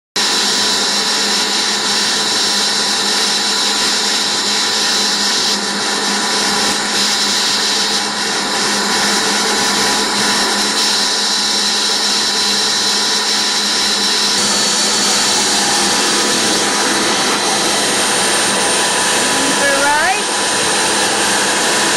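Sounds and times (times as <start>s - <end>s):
shop vac motor whining: 0.2s - 21.9s.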